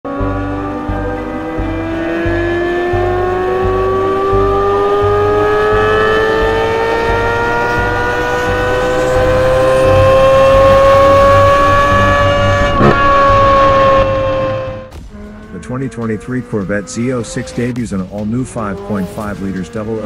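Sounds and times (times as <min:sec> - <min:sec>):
car engine revving under load: 0:00.0 - 0:20.0.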